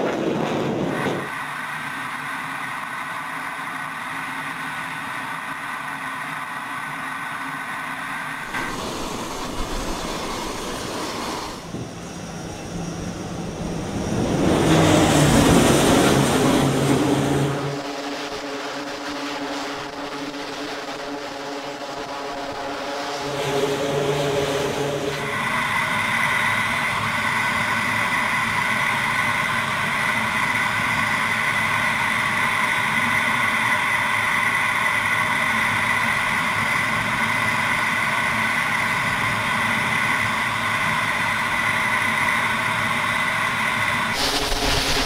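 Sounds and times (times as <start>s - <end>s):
jet engine whine in cockpit: 0.0s - 45.0s
turboprop engines droning: 0.0s - 45.0s.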